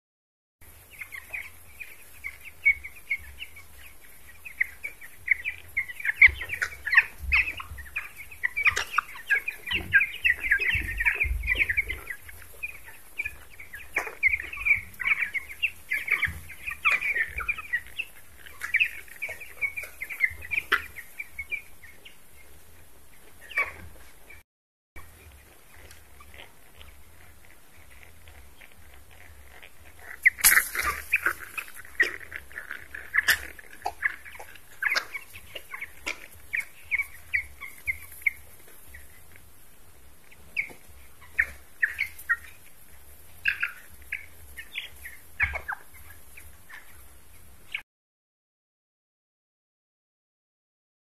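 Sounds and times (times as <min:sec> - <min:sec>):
chicks peeping: 0:00.6 - 0:24.4, 0:25.0 - 0:47.8.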